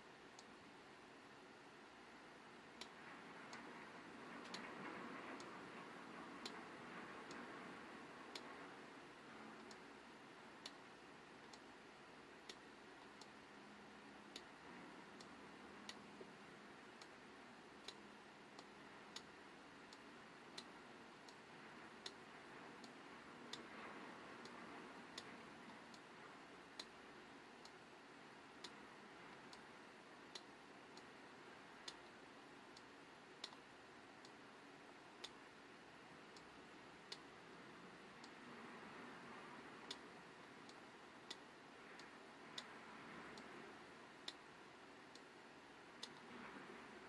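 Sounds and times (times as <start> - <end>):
low steady hiss: 0.0 - 47.0
faint sharp ticks: 2.6 - 35.6, 36.2 - 47.0.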